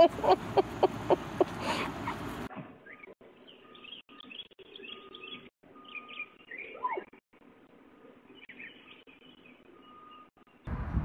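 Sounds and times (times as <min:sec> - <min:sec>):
songbirds chirping: 0:00.4 - 0:10.7.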